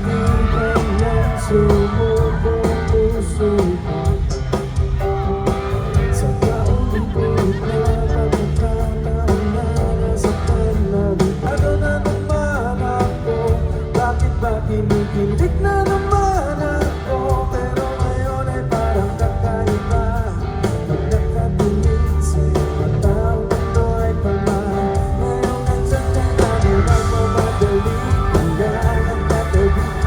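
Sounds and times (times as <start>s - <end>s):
live band with guitar and drums: 0.0s - 30.0s
person singing: 0.0s - 30.0s.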